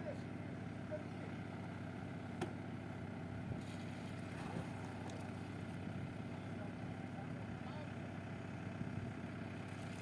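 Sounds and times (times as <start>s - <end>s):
heavy machinery engine droning: 0.0s - 10.0s.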